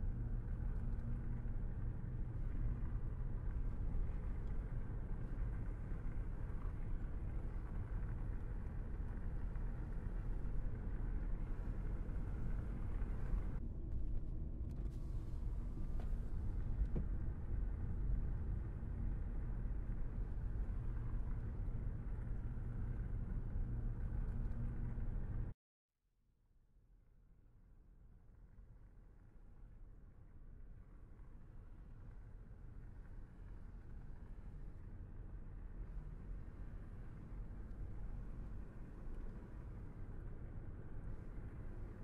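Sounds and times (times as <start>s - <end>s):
car engine and tyre rumble: 0.0s - 25.6s, 28.5s - 42.0s.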